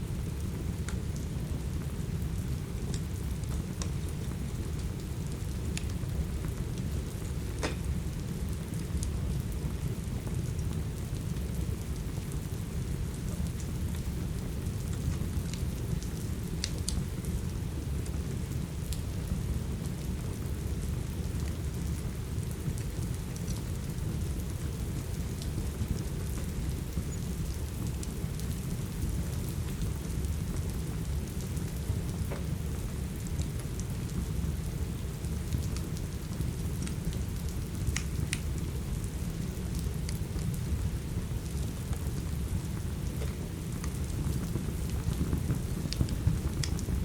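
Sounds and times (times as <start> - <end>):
steady rain rumble: 0.0 - 47.0
wood fire crackling: 0.1 - 47.0.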